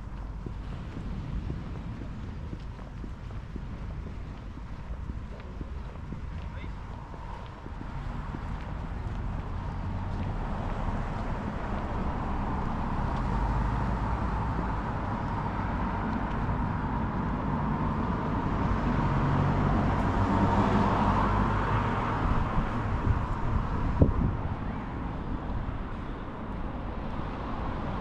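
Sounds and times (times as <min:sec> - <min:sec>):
outdoor noise haze: 0:00.0 - 0:28.0.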